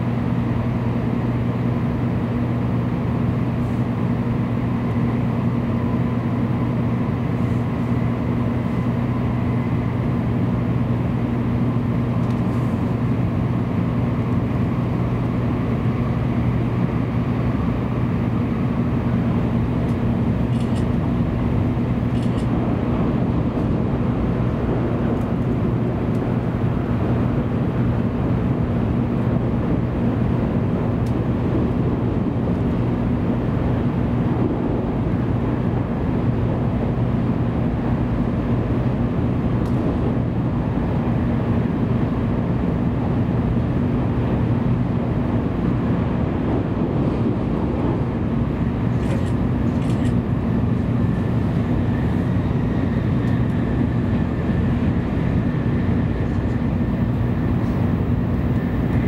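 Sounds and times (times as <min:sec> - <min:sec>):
train running noise inside cabin: 0:00.0 - 0:59.0.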